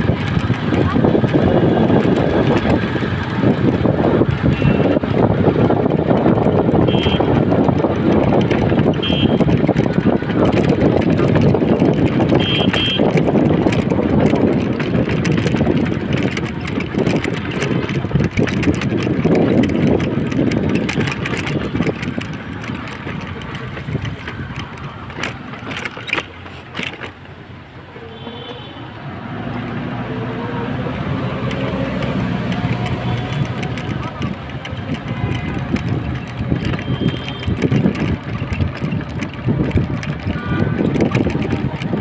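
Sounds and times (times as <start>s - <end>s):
small rattling clicks: 0.0s - 27.4s, 30.9s - 42.0s
motor vehicle engine hum: 0.0s - 42.0s
rickshaw ride rumble: 0.0s - 42.0s.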